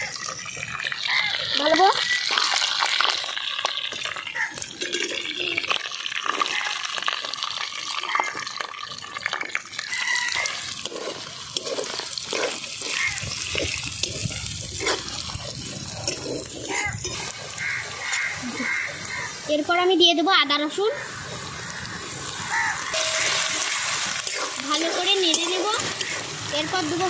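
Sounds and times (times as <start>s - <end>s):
spices sizzling in hot oil: 0.0s - 27.0s.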